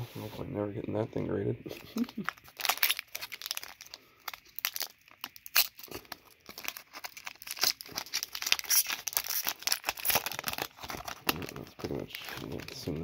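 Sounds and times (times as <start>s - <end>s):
foil wrapper crinkling: 1.9s - 13.0s.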